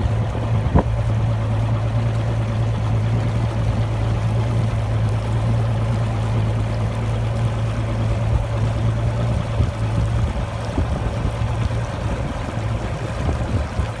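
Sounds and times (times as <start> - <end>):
outboard motor humming: 0.0 - 14.0.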